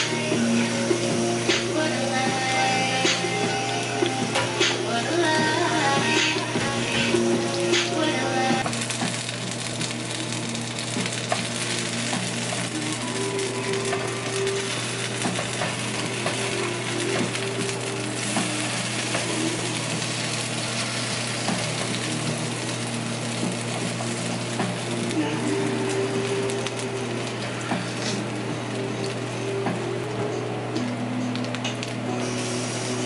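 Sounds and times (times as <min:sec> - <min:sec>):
patties sizzling in oil: 0:00.0 - 0:33.0.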